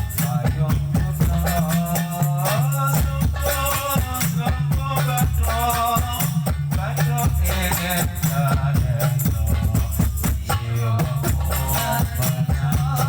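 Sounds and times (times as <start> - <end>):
man singing: 0.0 - 13.0
shaker percussion rhythm: 0.0 - 13.0.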